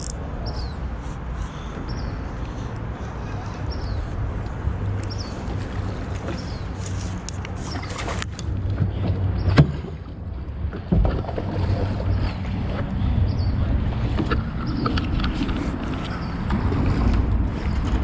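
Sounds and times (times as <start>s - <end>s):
water noise: 0.0s - 18.0s
wind rumbling on microphone: 0.0s - 18.0s.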